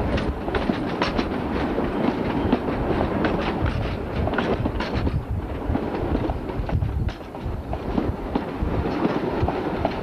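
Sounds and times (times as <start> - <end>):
low train rumble: 0.0 - 10.0
train wheels clattering over rail joints: 0.0 - 10.0.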